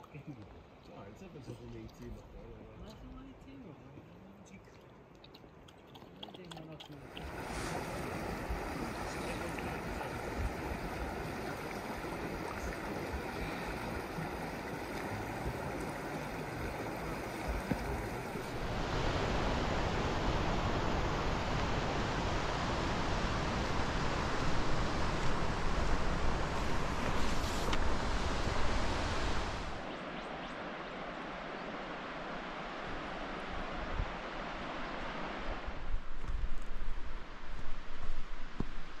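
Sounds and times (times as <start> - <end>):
mountain stream running water: 0.0 - 39.0.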